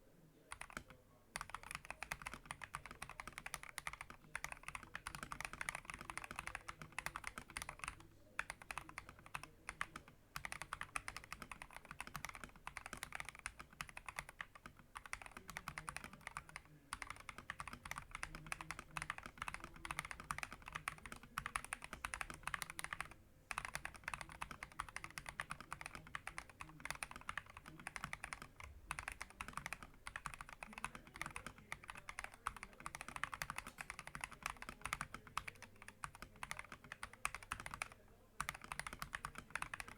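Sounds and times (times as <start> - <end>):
mechanical keyboard typing: 0.5 - 39.9.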